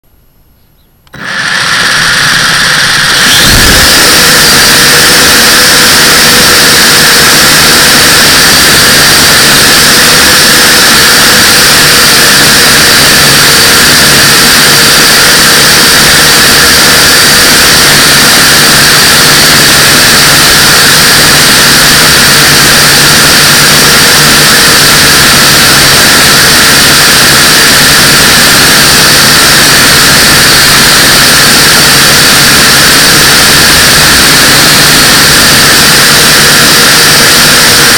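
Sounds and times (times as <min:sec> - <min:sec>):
quadcopter propellers whirring: 0:01.1 - 0:37.9.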